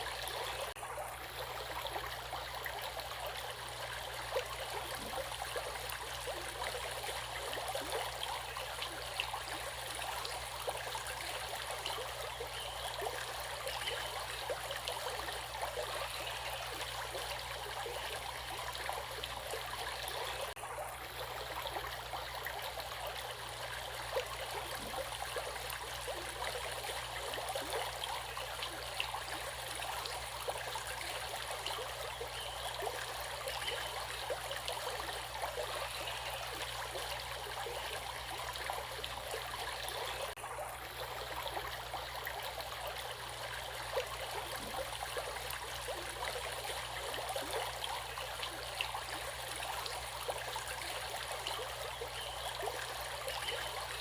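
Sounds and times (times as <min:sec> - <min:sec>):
stream of water running: 0:00.0 - 0:54.0.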